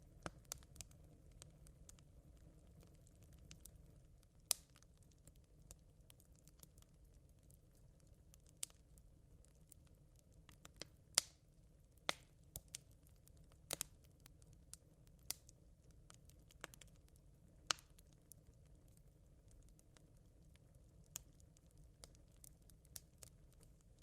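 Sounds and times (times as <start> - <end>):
embers crackling: 0.0 - 11.4, 12.0 - 24.0
faint low background: 0.0 - 24.0.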